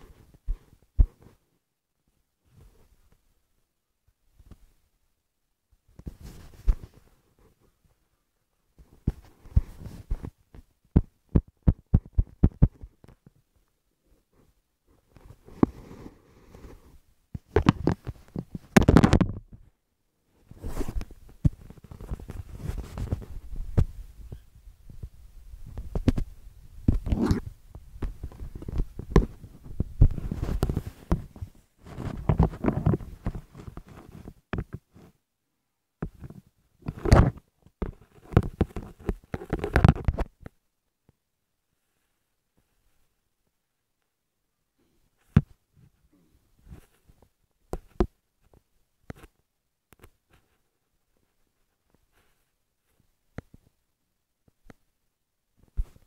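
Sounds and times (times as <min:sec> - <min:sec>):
rustling and handling noise: 0:00.0 - 0:44.2, 0:44.8 - 0:54.9, 0:55.5 - 0:56.0.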